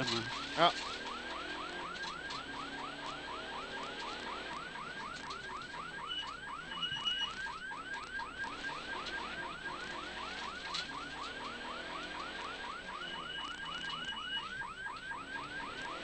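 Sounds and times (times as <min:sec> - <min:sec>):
electronic yelp siren: 0:00.0 - 0:16.0.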